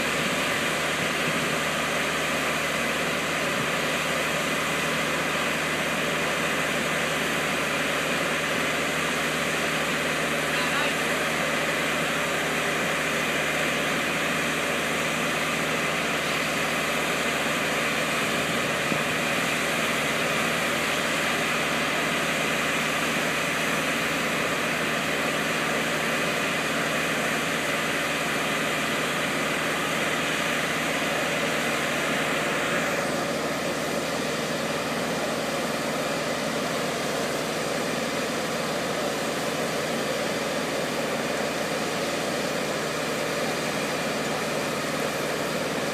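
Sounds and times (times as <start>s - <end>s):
engine running under load: 0.0s - 45.9s.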